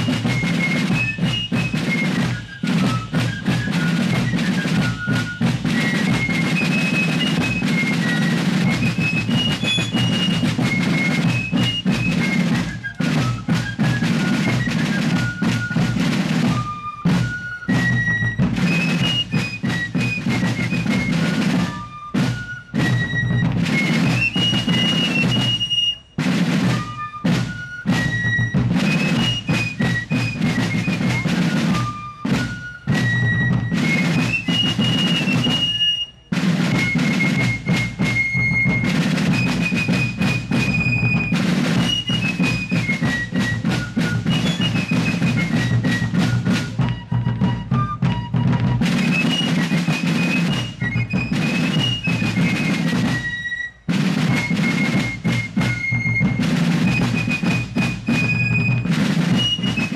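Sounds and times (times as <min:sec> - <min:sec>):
fifes playing shrill tune: 0:00.0 - 0:47.8, 0:48.4 - 0:59.9
snare drum rolls: 0:00.0 - 0:59.9.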